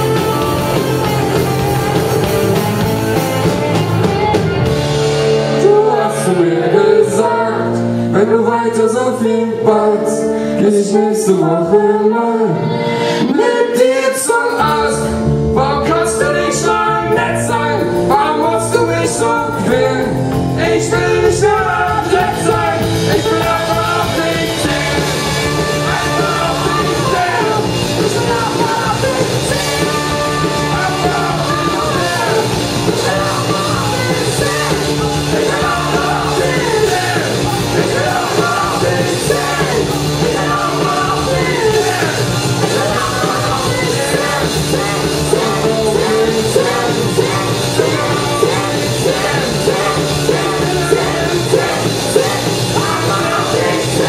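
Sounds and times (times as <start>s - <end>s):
bass guitar: 0.0s - 54.0s
drums: 0.0s - 54.0s
electric guitars: 0.0s - 54.0s
sung vocals: 0.0s - 54.0s.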